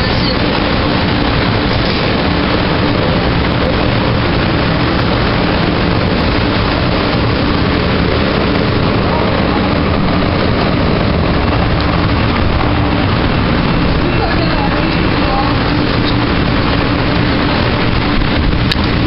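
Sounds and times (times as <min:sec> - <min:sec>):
light rail car rumble and hiss: 0:00.0 - 0:19.0
low hum: 0:00.0 - 0:19.0.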